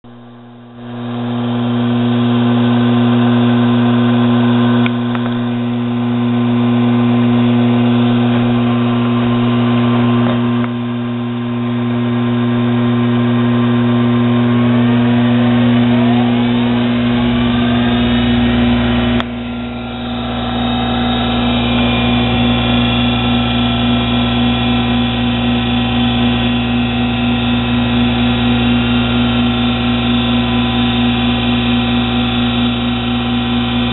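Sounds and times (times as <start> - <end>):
electric motor humming and whining: 0.4 - 33.9.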